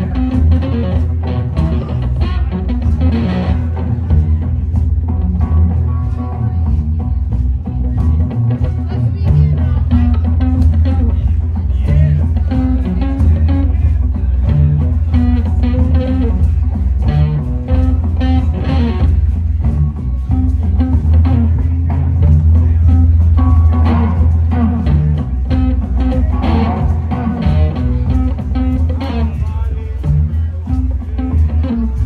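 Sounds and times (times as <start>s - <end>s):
amplified guitar: 0.0s - 32.0s
drums: 0.0s - 32.0s.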